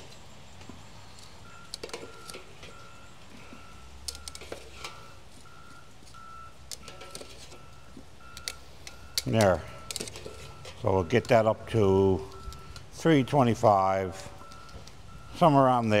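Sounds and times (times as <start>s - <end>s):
electronic beeps: 1.2s - 16.0s.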